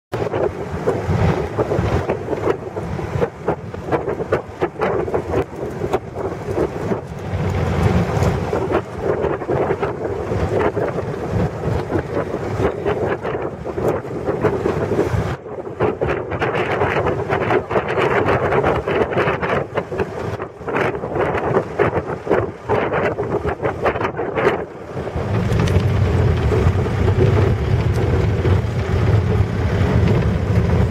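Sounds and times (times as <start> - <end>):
moving vehicle rumble: 0.1 - 30.9
wind buffeting microphone: 0.1 - 30.9.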